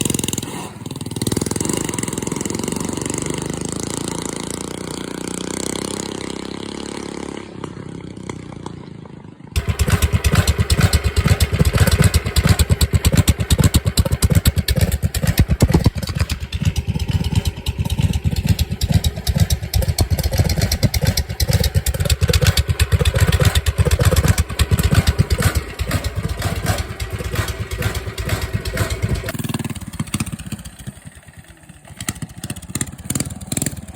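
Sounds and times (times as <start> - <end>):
small engine loud exhaust pulses: 0.0 - 33.9.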